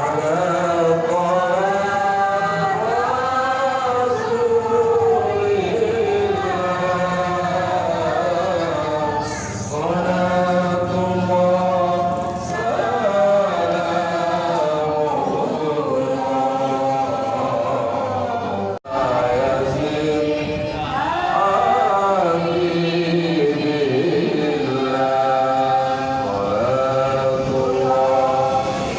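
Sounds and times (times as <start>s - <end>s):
group of voices chanting: 0.0s - 28.9s.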